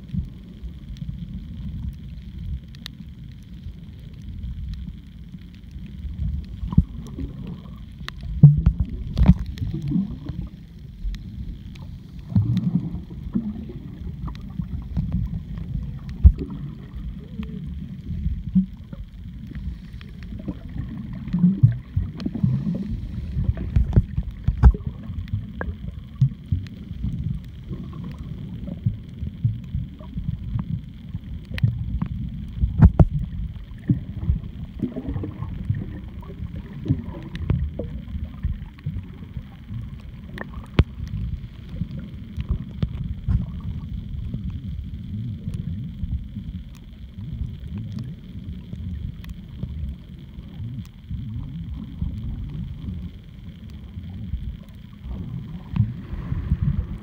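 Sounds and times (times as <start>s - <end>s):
underwater rumble of moving water: 0.0s - 57.0s.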